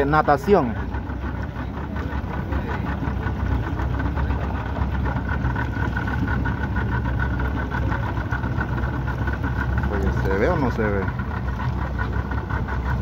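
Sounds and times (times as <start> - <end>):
small boat engine running: 0.0 - 13.0.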